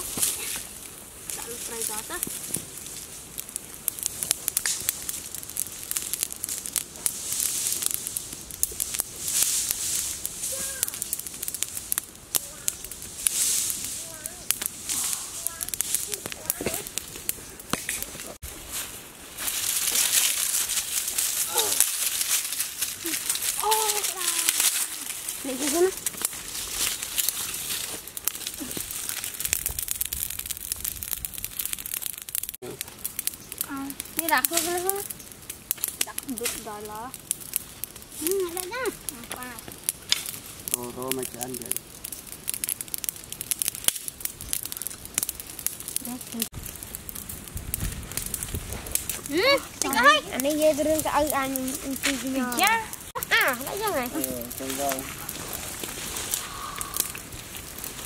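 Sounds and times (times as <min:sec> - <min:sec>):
fire hissing: 0:00.0 - 0:58.0
twig fire crackling and popping: 0:00.0 - 0:58.0.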